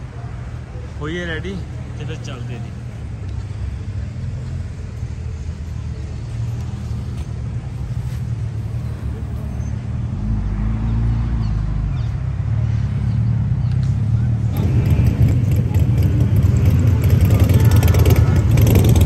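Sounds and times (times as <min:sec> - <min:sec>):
deeper engine rumble: 0:00.0 - 0:19.0
vehicle engine idling: 0:00.0 - 0:19.0.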